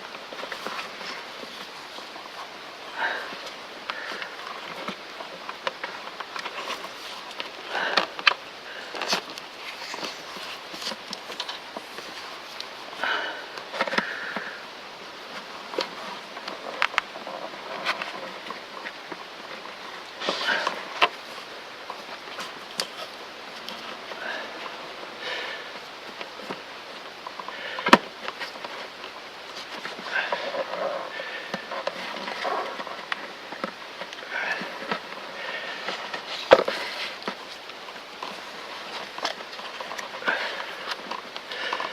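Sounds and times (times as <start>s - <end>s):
handling noise crackling: 0.0s - 41.9s.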